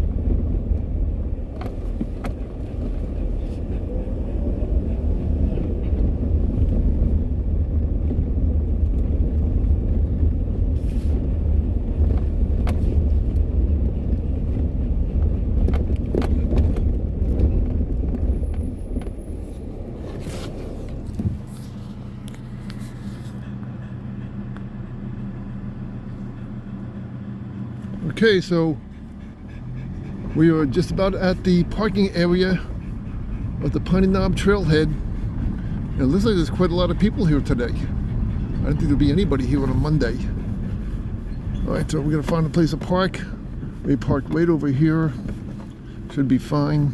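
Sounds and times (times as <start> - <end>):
car engine hum: 0.0 - 46.9
tyres rumbling on dirt road: 0.0 - 46.9.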